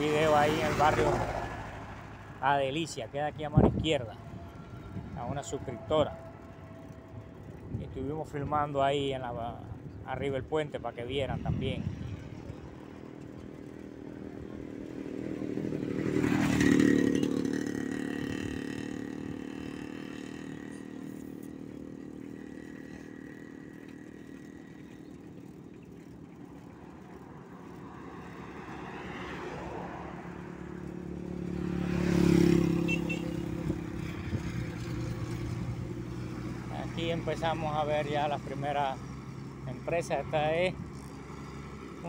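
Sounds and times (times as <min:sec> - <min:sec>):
engine and road hum: 0:00.0 - 0:42.0
vehicles passing close by: 0:00.0 - 0:42.0.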